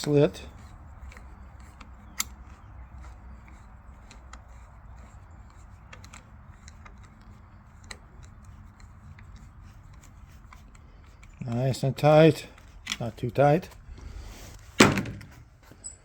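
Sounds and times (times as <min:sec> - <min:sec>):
screwdriver clicking and scraping: 0:00.0 - 0:16.0.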